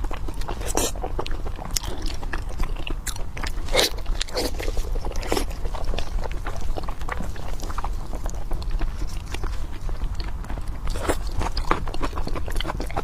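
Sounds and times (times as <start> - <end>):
chewing meat wet crunches: 0.0 - 13.0
steady low hum: 0.0 - 13.0.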